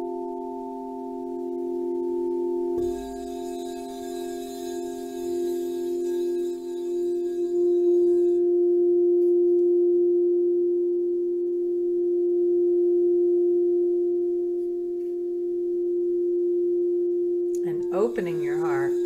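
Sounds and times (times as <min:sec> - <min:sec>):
singing bowl tone: 0:00.0 - 0:19.0.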